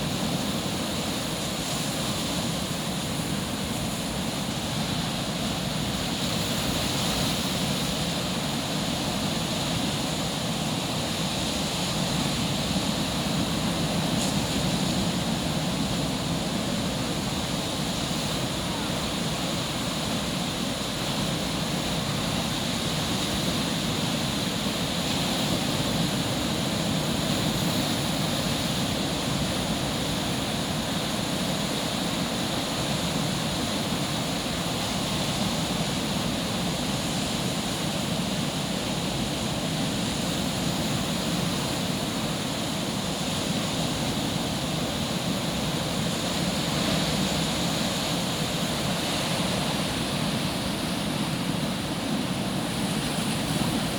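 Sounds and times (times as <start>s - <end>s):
ocean surf breaking on beach: 0.0s - 53.9s.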